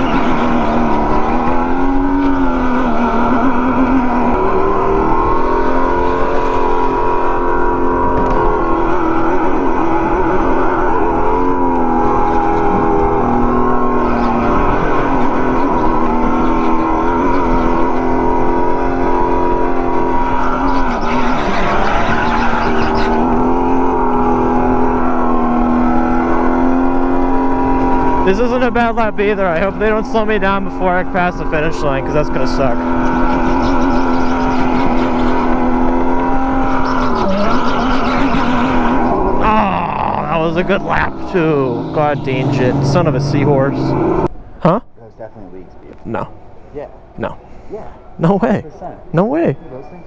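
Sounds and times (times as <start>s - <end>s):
go-kart motor running: 0.0s - 44.4s.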